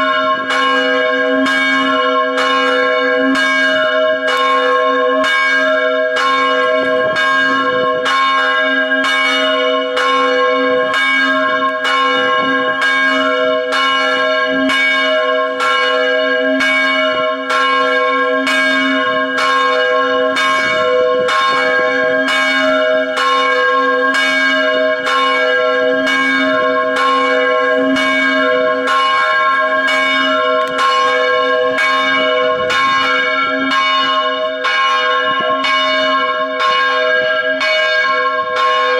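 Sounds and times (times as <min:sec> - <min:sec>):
church bell ringing: 0:00.0 - 0:38.9.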